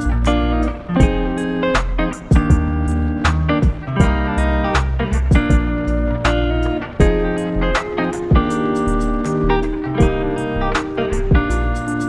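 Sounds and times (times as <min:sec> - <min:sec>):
guitar-led music with drums: 0:00.0 - 0:12.0.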